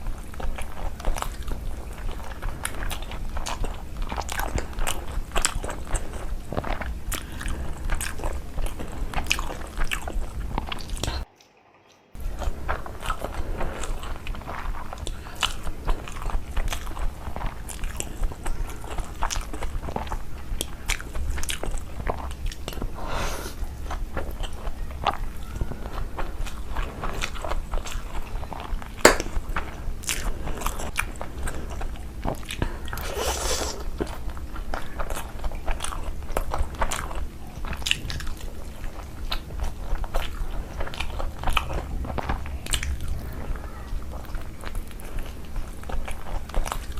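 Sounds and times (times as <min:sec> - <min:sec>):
person chewing and crunching food: 0:00.0 - 0:46.9
steady low hum: 0:00.0 - 0:46.9.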